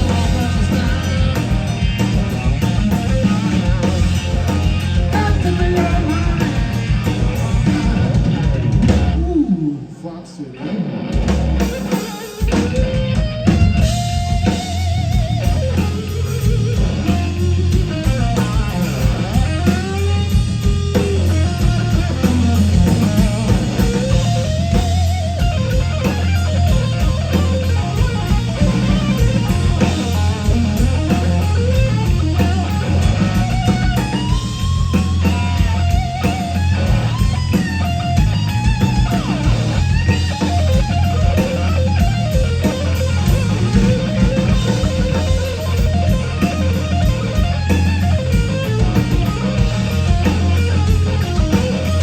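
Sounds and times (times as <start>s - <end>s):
drum kit: 0.0s - 9.9s, 11.0s - 52.0s
bass guitar: 0.0s - 52.0s
electric lead guitar bending notes: 0.0s - 52.0s.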